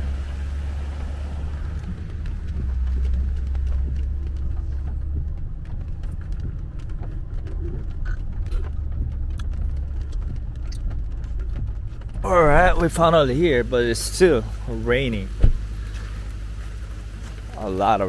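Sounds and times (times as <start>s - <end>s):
low car rumble: 0.0s - 18.0s
rain ticking on car roof: 0.0s - 18.0s.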